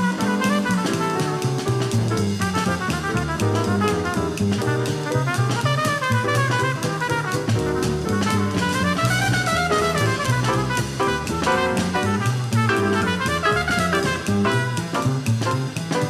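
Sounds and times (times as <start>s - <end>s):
small jazz band playing: 0.0s - 16.0s.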